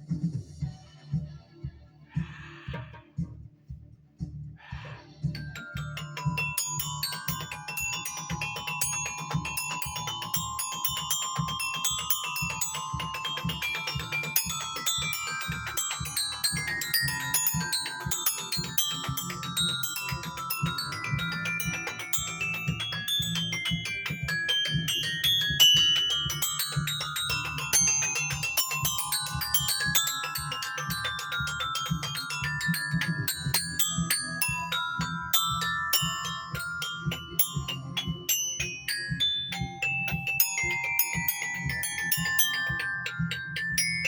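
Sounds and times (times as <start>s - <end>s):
mallet percussion fast runs: 5.3s - 44.0s.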